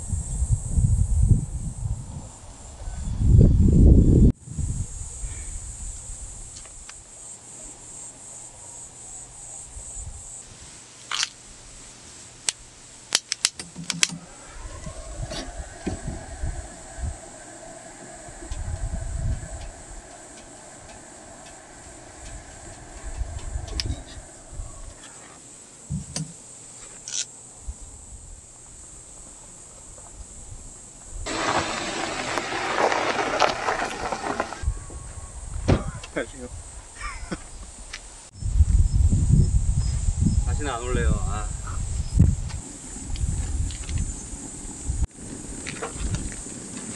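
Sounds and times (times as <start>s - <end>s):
insects trilling: 4.4s - 11.8s, 13.8s - 46.9s
rushing outdoor background noise: 4.4s - 46.9s.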